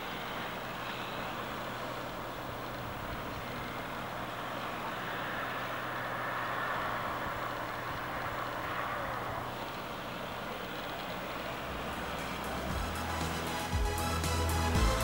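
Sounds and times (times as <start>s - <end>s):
distant boat engines droning: 0.0s - 15.0s.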